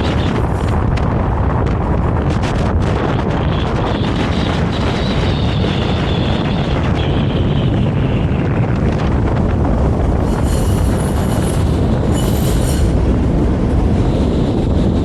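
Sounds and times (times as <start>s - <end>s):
tram running along track: 0.0s - 15.0s
wind buffeting microphone: 0.0s - 15.0s.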